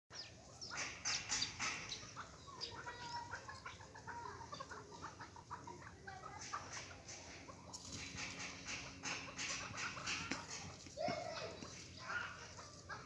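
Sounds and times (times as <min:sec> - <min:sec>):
young partridges chirping: 0:00.1 - 0:13.0.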